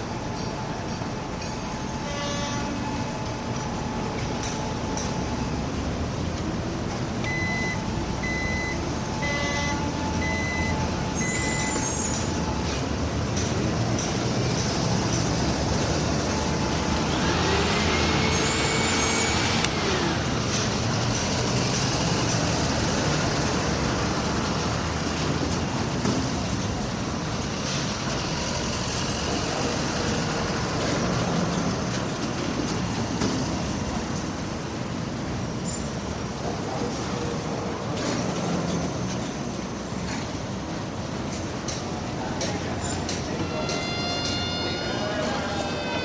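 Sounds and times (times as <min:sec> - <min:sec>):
rumble of trucks and machinery: 0:00.0 - 0:46.0.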